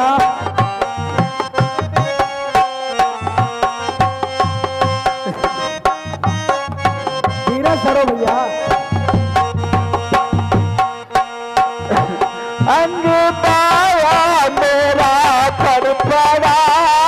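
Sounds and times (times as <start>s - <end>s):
melody instrument holding notes: 0.0s - 15.6s
hand drums rhythm: 0.0s - 17.0s.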